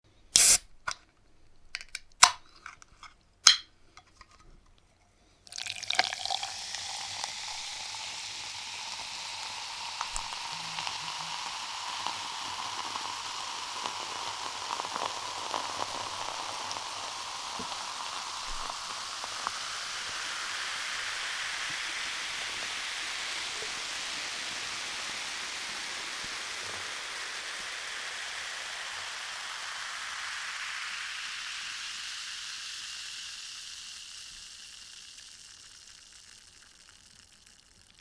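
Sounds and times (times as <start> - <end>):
cola fizzing as it pours: 5.4 - 38.0.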